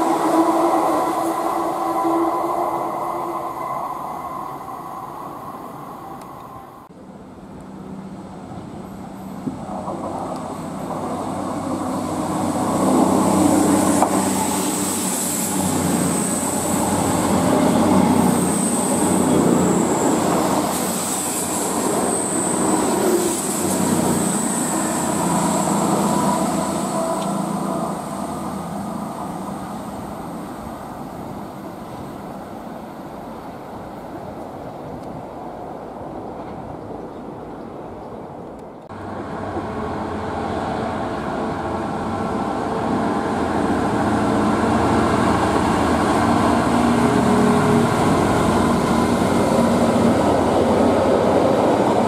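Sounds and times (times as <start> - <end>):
diesel train passing: 0.0 - 52.0.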